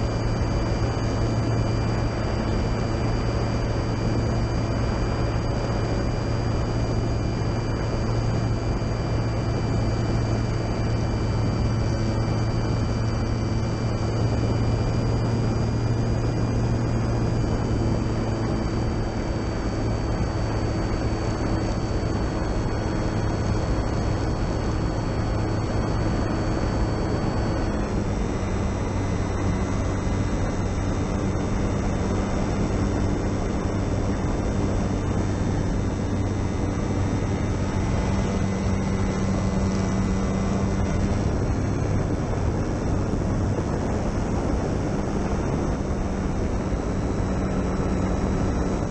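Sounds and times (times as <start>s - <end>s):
model plane electric motor whining: 0.0s - 48.9s.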